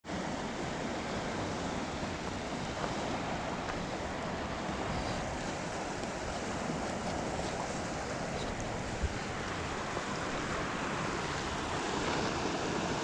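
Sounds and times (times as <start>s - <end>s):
wind blowing on microphone: 0.1s - 13.0s.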